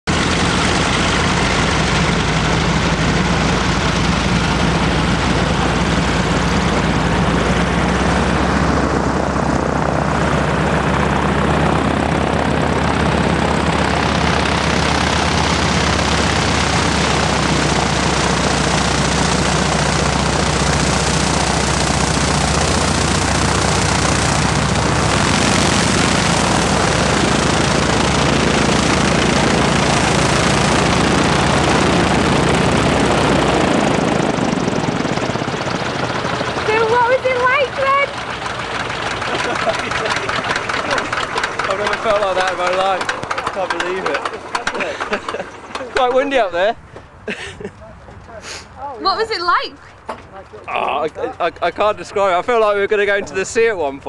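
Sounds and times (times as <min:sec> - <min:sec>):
propeller aircraft engine: 0:00.0 - 0:54.0.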